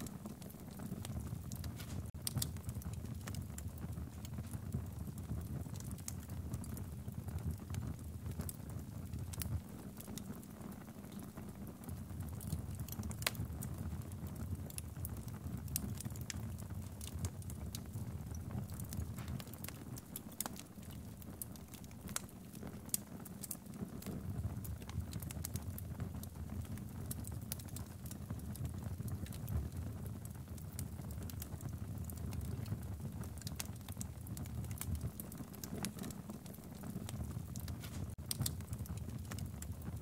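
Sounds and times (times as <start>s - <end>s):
logs crackling and popping: 0.0s - 40.0s
low rumble of fire: 0.0s - 40.0s.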